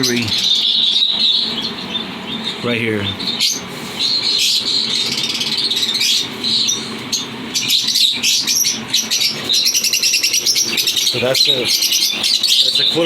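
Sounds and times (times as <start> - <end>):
birds chirping and chattering: 0.0 - 13.0.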